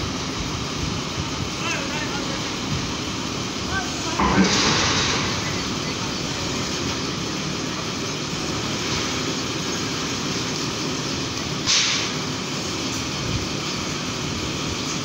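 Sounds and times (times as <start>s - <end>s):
crane diesel engine running: 0.0s - 15.0s
loud hiss: 0.0s - 15.0s.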